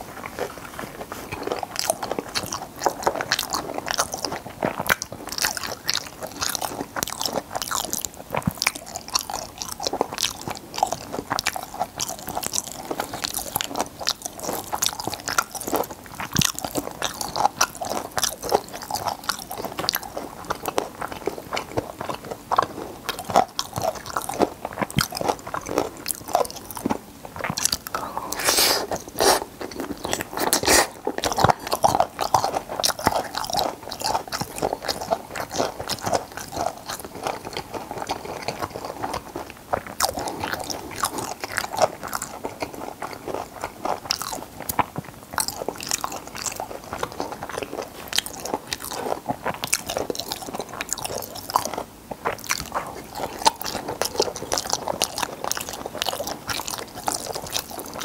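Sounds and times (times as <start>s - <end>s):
chewing with mouth clicks: 0.0s - 58.0s.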